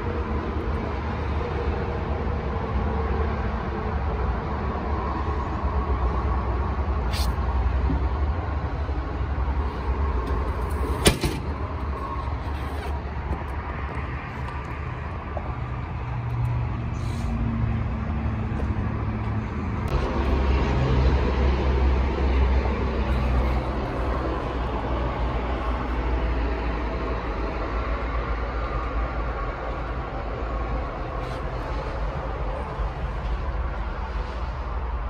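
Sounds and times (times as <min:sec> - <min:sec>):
diesel engine idling: 0:03.6 - 0:34.8.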